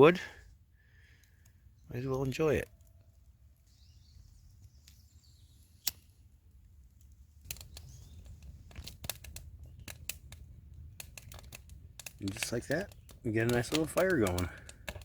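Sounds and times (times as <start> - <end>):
campfire crackling: 0.0 - 15.0
sharp pops of burning kindling: 2.2 - 15.0.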